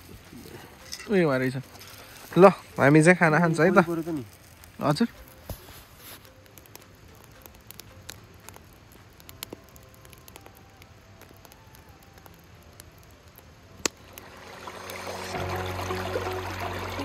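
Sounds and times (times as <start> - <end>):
small clicks and crackles: 0.0 - 14.2
music: 0.0 - 17.0.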